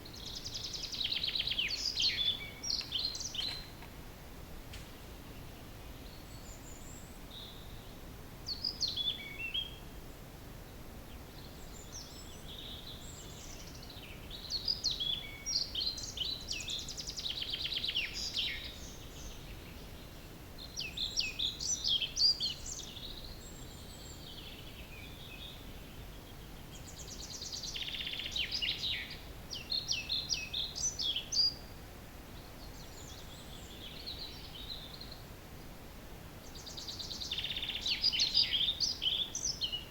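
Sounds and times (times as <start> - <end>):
low background noise: 0.0 - 39.9
songbirds singing: 0.0 - 39.9.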